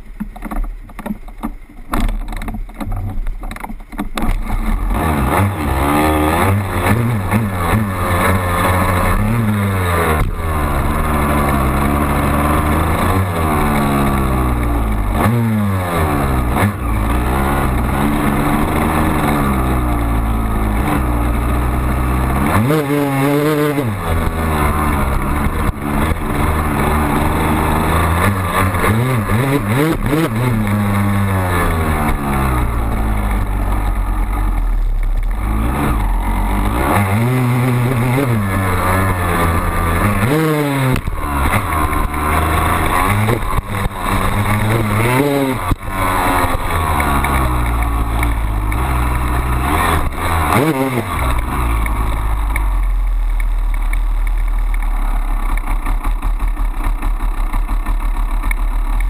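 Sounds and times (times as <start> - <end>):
dirt bike engine revving: 4.2 - 59.0.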